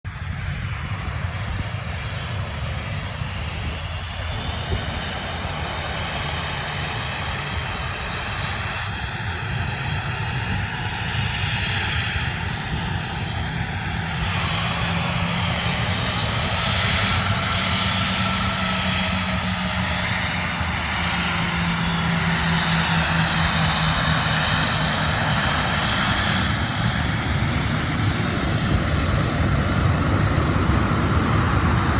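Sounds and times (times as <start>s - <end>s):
airplane engines rumbling: 0.1s - 31.9s.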